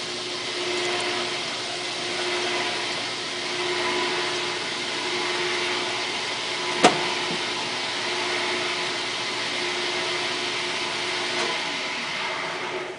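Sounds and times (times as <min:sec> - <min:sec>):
dishwasher motor humming: 0:00.0 - 0:12.9.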